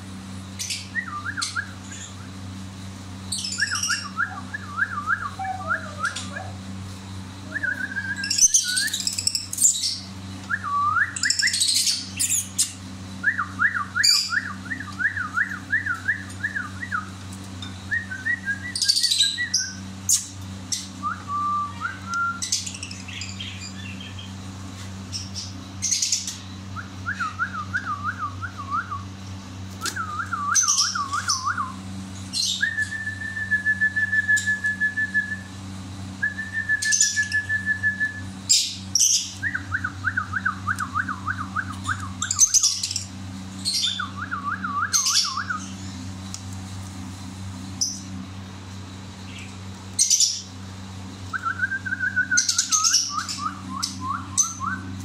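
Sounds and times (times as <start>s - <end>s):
steady low hum: 0.0s - 55.0s
lovebirds chirping and whistling: 0.5s - 2.3s, 3.2s - 6.7s, 7.4s - 24.4s, 25.1s - 29.1s, 29.8s - 35.6s, 36.2s - 46.4s, 47.7s - 48.2s, 49.2s - 55.0s.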